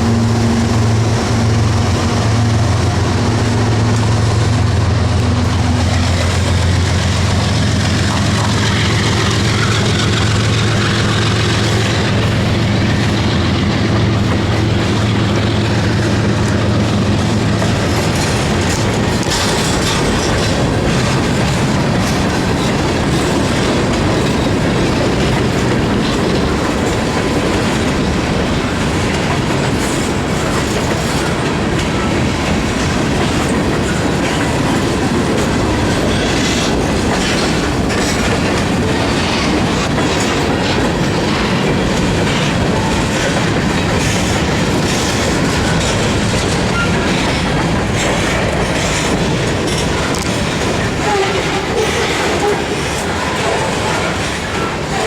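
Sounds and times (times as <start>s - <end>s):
freight train cars rolling: 0.0s - 55.0s
wheels clicking over rail joints: 1.5s - 55.0s.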